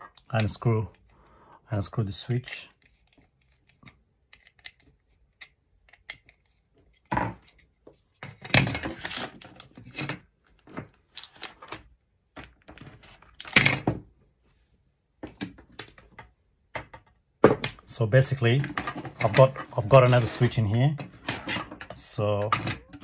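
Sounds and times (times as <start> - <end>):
rustling and knocking of cables: 2.7 - 14.2, 15.2 - 23.0.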